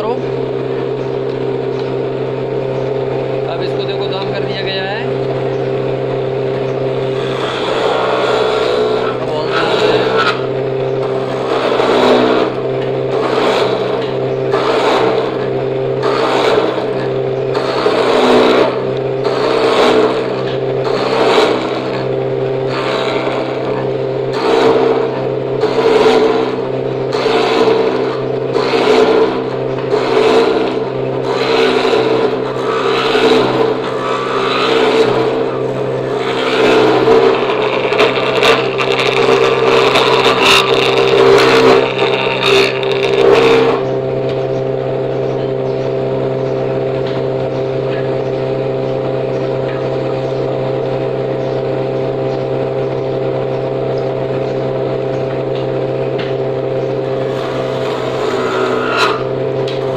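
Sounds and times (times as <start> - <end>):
electric wood planer running: 0.0 - 59.9
rasping cutting noise: 0.0 - 59.9.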